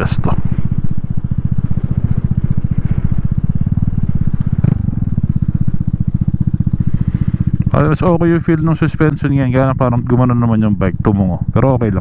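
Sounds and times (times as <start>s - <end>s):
scooter engine chugging: 0.0s - 12.0s.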